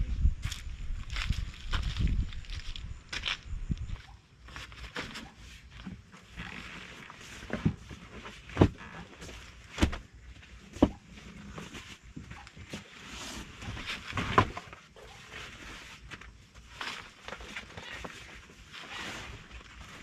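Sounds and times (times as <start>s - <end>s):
rustling of camping gear: 0.0s - 20.0s.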